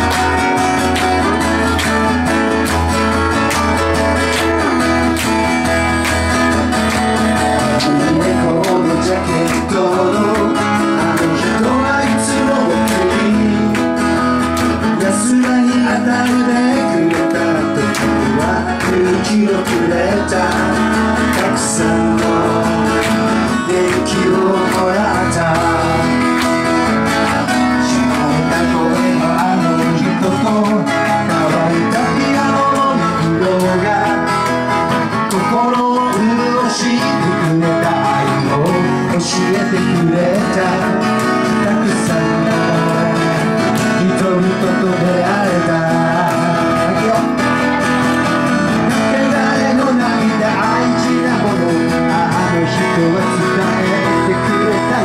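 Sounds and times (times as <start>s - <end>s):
acoustic guitars strumming: 0.0s - 55.0s.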